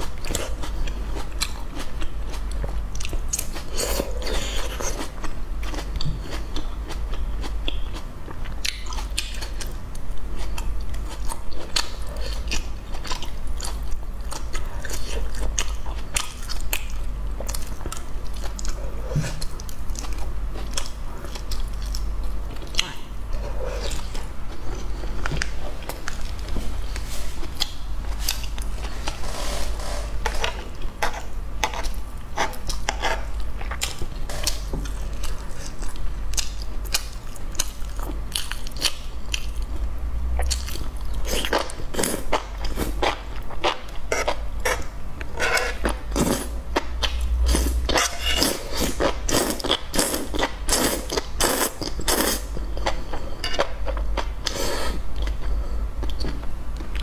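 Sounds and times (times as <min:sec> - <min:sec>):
person chewing and slurping: 0:00.0 - 0:39.7, 0:40.3 - 0:57.0.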